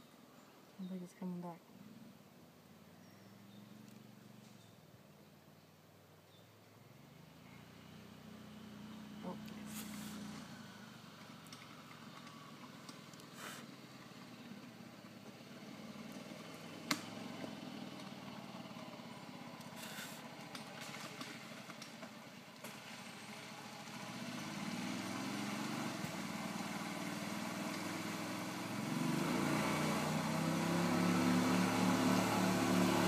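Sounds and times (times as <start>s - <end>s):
golf cart engine running: 3.1s - 4.8s, 6.3s - 33.0s.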